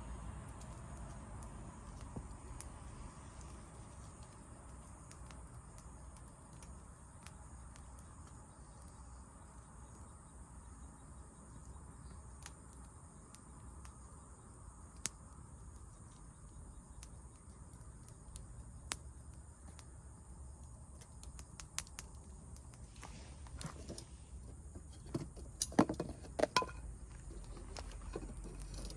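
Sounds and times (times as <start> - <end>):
campfire crackling and popping: 0.0 - 28.9.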